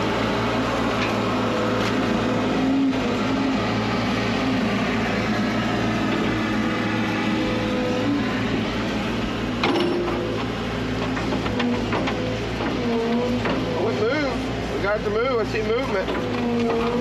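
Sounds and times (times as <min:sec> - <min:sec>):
excavator diesel engine under load: 0:00.0 - 0:17.0
hydraulic whine: 0:00.0 - 0:17.0.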